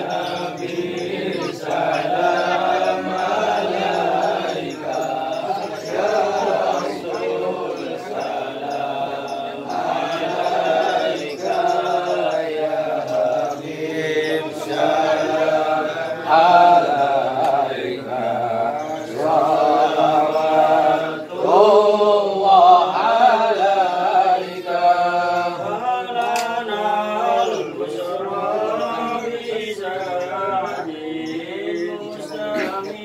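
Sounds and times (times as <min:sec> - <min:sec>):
men chanting devotional song: 0:00.0 - 0:33.0.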